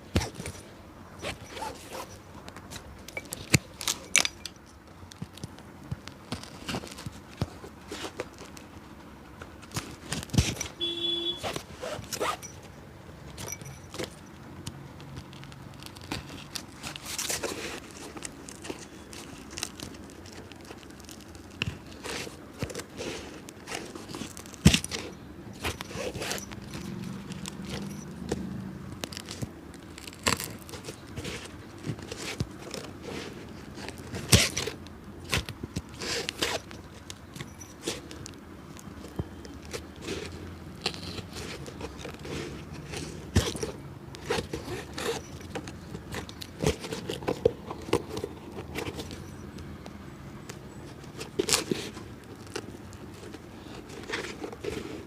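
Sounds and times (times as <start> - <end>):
hand tools scraping leather: 0.0 - 55.0.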